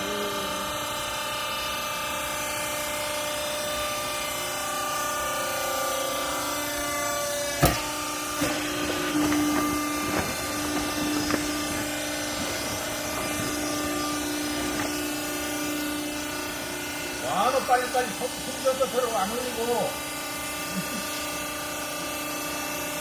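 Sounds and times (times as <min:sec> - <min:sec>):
baler machine humming: 0:00.0 - 0:23.0.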